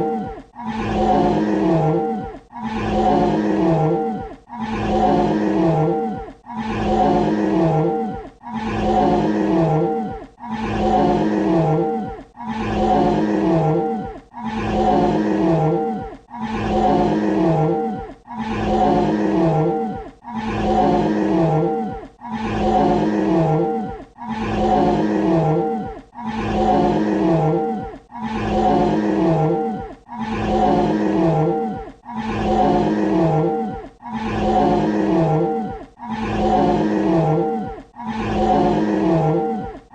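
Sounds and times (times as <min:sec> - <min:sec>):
dinosaur roar: 0:00.0 - 0:39.9.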